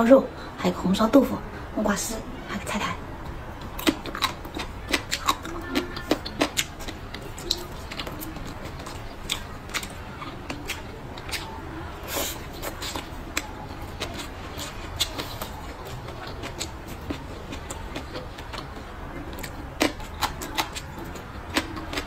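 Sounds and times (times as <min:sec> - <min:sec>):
person chewing with wet smacks: 0:02.8 - 0:22.0.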